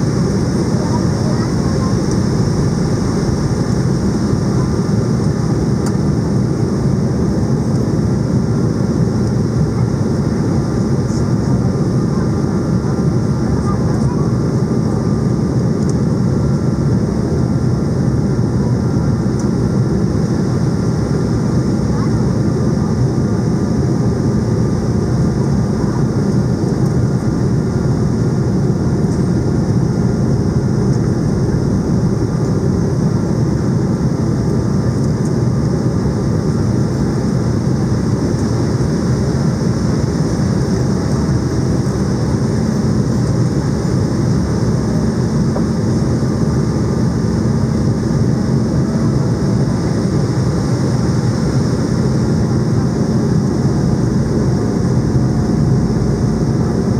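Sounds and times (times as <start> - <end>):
airliner engines humming: 0.0 - 56.9.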